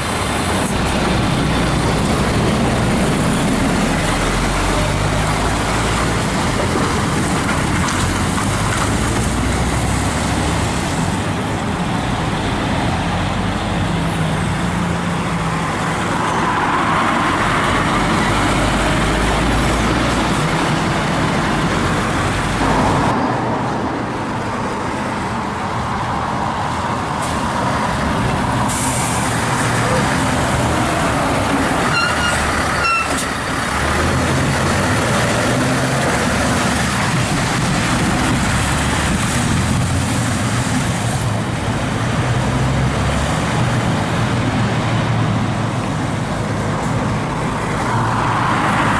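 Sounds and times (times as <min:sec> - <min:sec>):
diesel trucks driving past: 0:00.0 - 0:48.9
tyre and road noise: 0:00.0 - 0:48.9.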